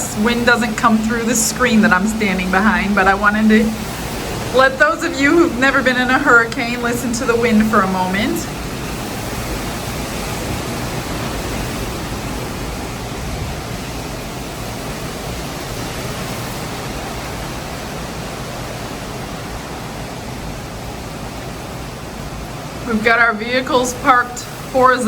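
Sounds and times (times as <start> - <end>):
strong wind rushing: 0.0 - 25.0.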